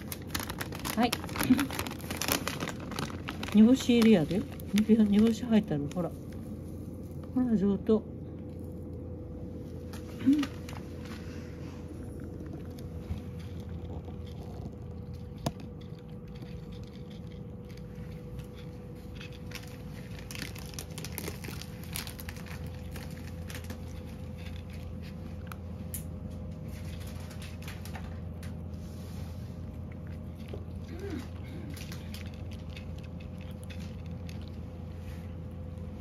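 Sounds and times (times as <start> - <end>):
cat crunching dry food: 0.0 - 7.4, 8.1 - 36.0
low background hum: 0.0 - 36.0.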